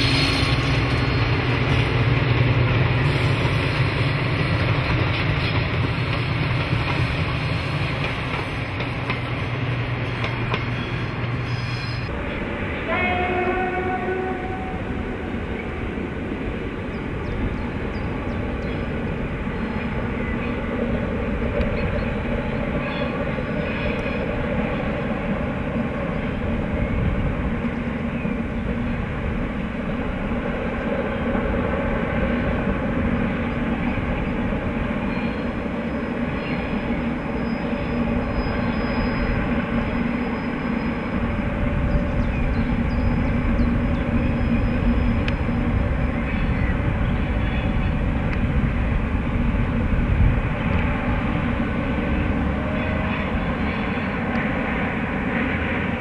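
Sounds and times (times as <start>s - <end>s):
distant freight train rumbling: 0.0s - 56.0s.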